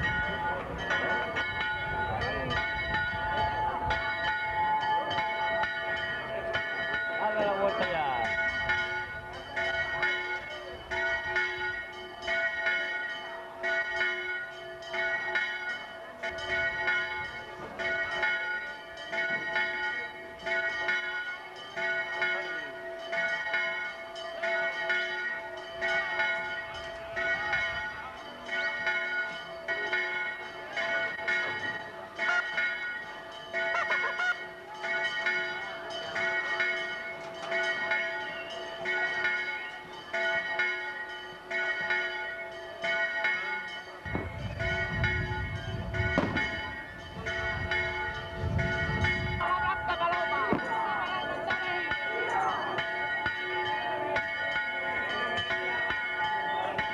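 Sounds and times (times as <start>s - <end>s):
bell ringing: 0.0s - 56.9s.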